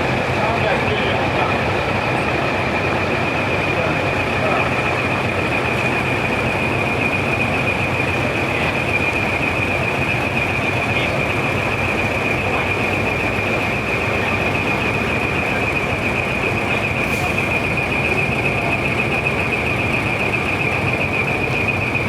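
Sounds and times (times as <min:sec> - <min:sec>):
continuous high-pitched tone: 0:00.0 - 0:22.0
truck engines running: 0:00.0 - 0:22.0.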